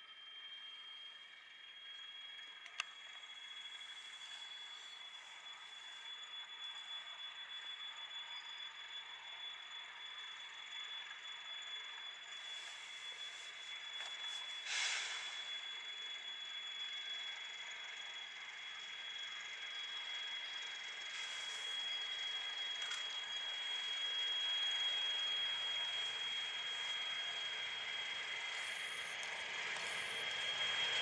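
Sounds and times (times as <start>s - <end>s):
locomotive engine approaching: 0.0s - 31.0s
steady high-pitched whine: 0.0s - 31.0s.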